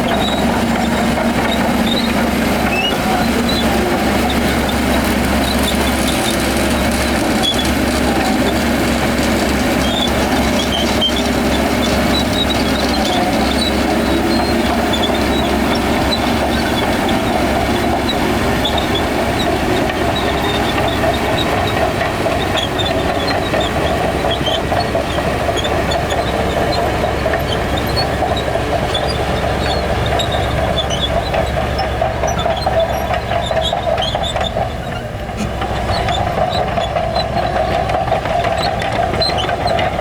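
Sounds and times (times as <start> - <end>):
diesel engine under load: 0.0 - 40.0
steel tracks clattering: 0.0 - 40.0.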